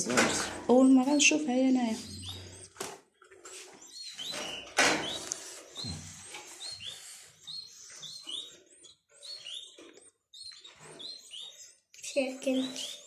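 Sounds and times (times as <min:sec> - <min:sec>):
nestlings begging chirps: 0:00.3 - 0:02.8, 0:03.8 - 0:13.0.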